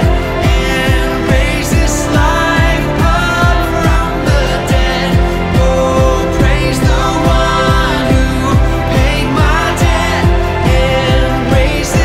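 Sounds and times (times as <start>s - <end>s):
kick-drum beat: 0.0s - 12.0s
person singing: 0.0s - 12.0s
sustained instruments: 0.0s - 12.0s.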